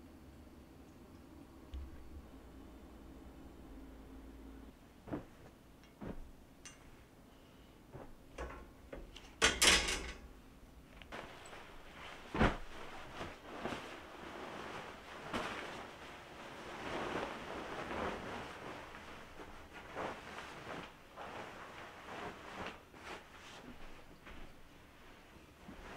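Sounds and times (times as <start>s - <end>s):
cloth rustling: 3.6s - 9.4s, 10.0s - 25.9s.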